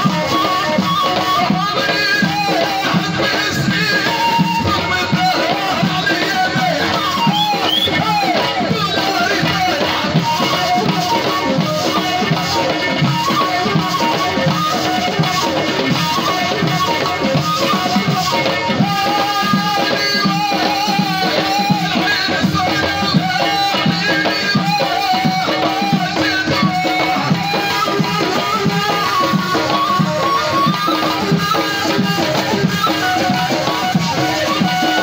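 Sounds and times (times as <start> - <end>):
cane flute melody: 0.0 - 35.0
frame drum rhythm: 0.0 - 35.0.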